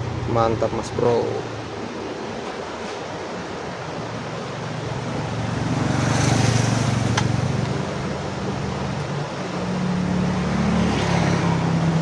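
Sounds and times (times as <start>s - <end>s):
motor vehicle passing by: 1.5s - 12.0s.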